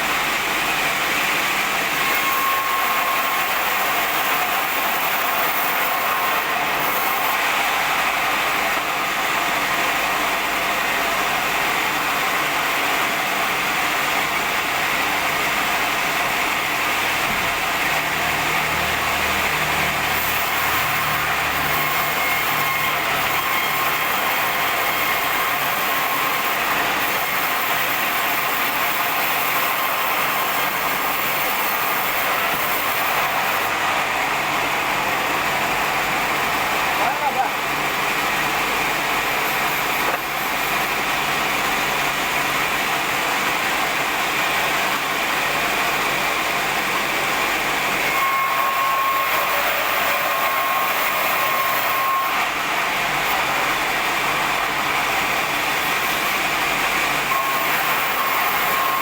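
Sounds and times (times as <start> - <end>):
band saw running: 0.0 - 59.0.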